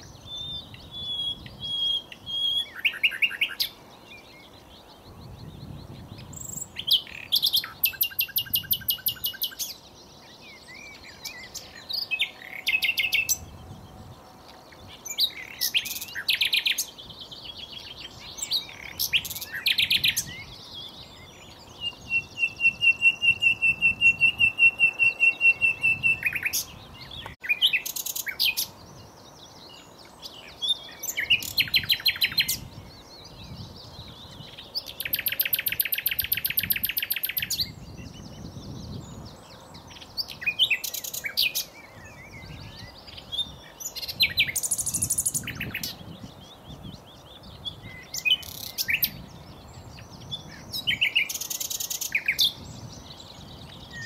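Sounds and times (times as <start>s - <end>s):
nightingale singing: 0.0s - 54.0s.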